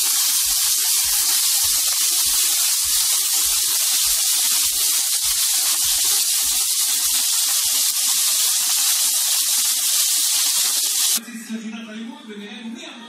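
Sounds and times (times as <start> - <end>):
meat sizzling in a pan: 0.0 - 11.2
small pops and crackles: 0.0 - 11.2.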